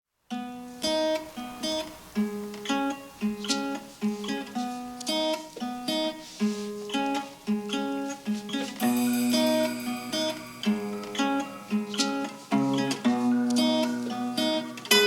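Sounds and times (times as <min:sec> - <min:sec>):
acoustic guitar picking: 0:00.3 - 0:15.0.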